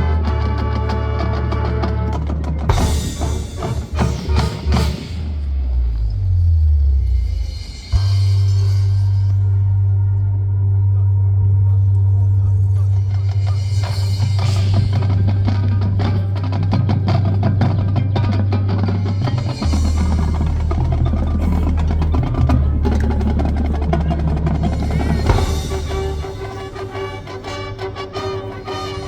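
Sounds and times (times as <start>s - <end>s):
marching band playing: 0.0s - 5.9s, 11.5s - 29.0s.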